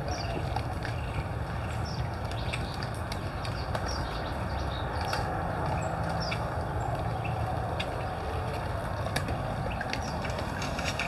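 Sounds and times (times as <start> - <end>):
animals crunching corn: 0.0 - 11.0
birds chirping: 0.0 - 11.0.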